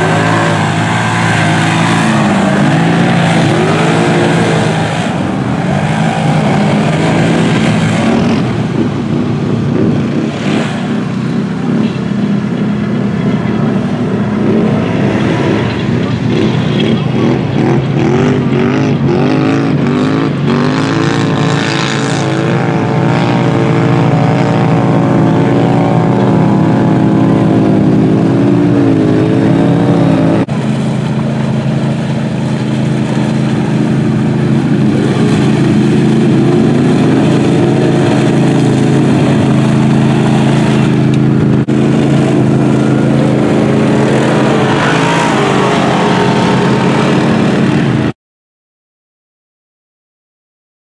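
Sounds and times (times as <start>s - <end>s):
off-road engines revving: 0.0s - 48.2s
steady low drone: 0.0s - 48.2s.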